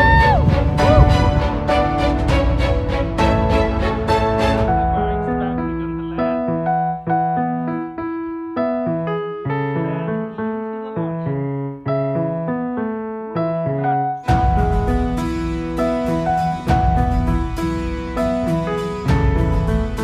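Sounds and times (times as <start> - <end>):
slow solo piano: 0.0 - 20.0.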